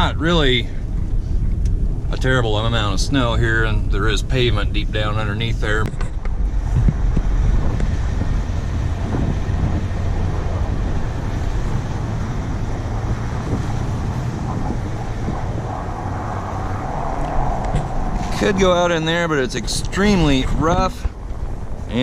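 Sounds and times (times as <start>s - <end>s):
pickup truck engine running: 0.0s - 22.0s
tyre and road noise: 0.0s - 22.0s.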